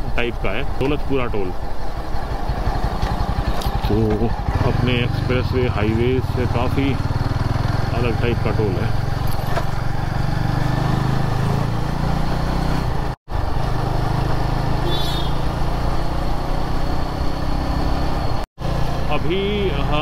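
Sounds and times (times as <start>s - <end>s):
wind and road noise: 0.0s - 20.0s
motorcycle engine running: 0.2s - 20.0s.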